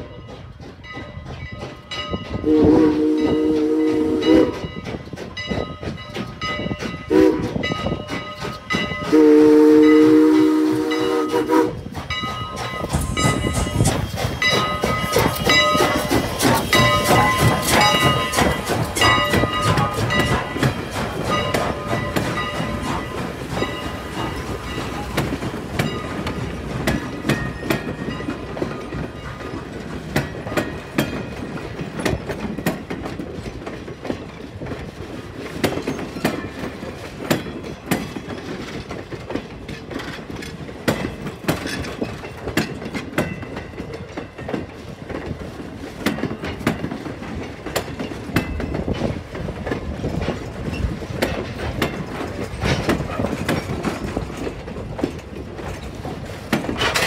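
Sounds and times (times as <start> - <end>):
train rumble: 0.0 - 57.0
train wheels clicking over rail joints: 0.0 - 57.0.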